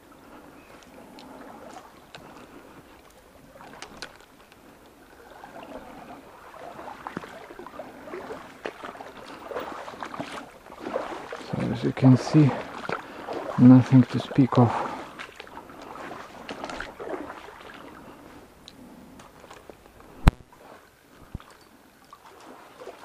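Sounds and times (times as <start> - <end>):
stream water splashing and trickling: 0.0 - 23.0.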